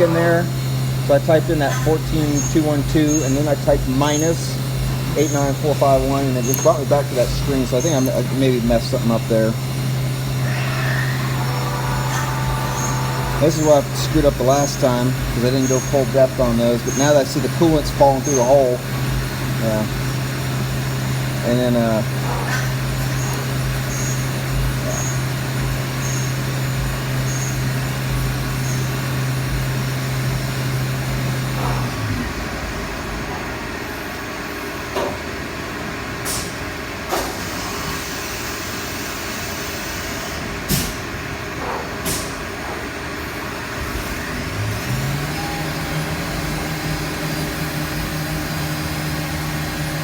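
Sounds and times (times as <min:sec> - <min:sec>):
coolant wash: 0:00.0 - 0:50.0
mill spindle hum: 0:00.0 - 0:50.0.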